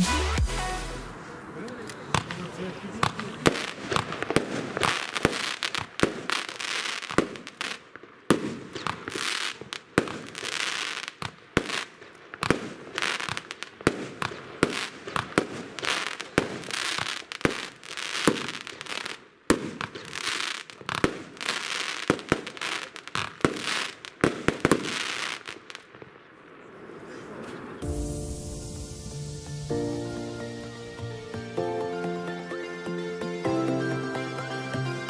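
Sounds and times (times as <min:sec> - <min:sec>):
firework hissing: 0:00.0 - 0:25.8, 0:27.8 - 0:31.1
firework shots: 0:00.7 - 0:30.0.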